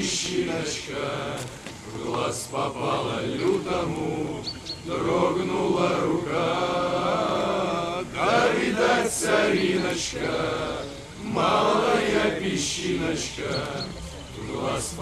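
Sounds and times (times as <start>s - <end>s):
men singing slow song: 0.0s - 15.0s.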